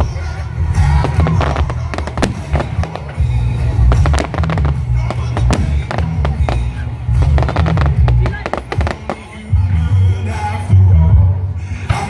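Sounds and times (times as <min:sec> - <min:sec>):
fireworks bangs and crackles: 0:00.0 - 0:09.7
loud music: 0:00.0 - 0:12.0.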